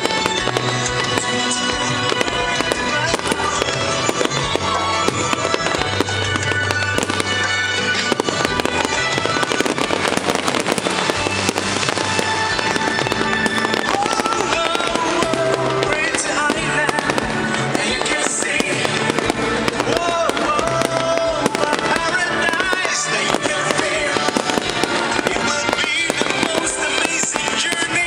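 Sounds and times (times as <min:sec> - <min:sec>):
fireworks bursting and crackling: 0:00.0 - 0:28.0
loud music from sound system: 0:00.0 - 0:28.0.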